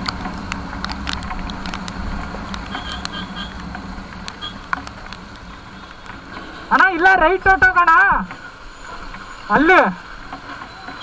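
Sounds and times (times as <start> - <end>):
raindrops hitting microphone: 0.0 - 11.0
wind and road noise: 0.0 - 11.0.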